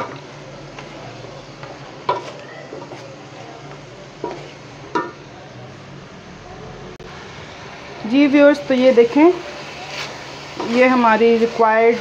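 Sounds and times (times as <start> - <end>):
chicken and vegetables sizzling: 0.0 - 12.0.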